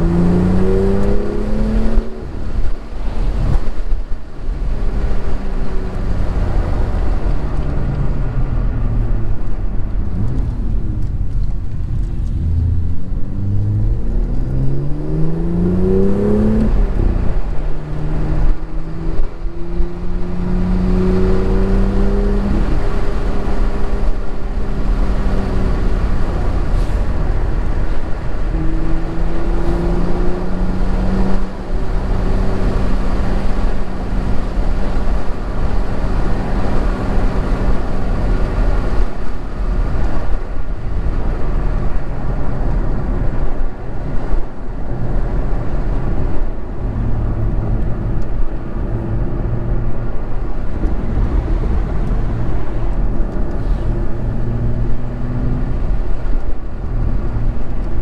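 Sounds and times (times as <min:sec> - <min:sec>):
car engine revving: 0:00.0 - 0:58.0
tyre and wind noise: 0:00.0 - 0:58.0.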